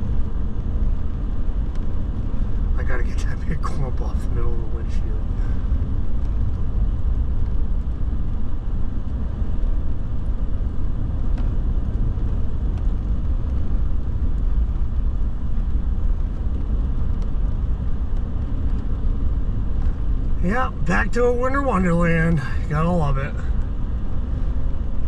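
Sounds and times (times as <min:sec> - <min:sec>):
pickup truck engine and tyre rumble: 0:00.0 - 0:25.0.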